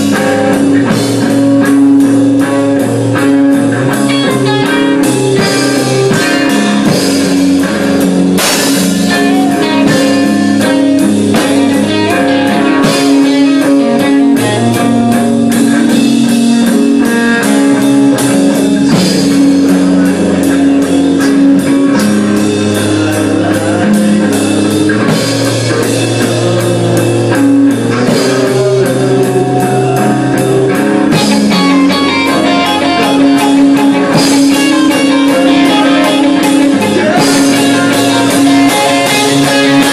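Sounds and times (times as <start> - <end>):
drum kit with cymbal hits: 0.0 - 39.9
electric guitars playing melodic lines: 0.0 - 39.9.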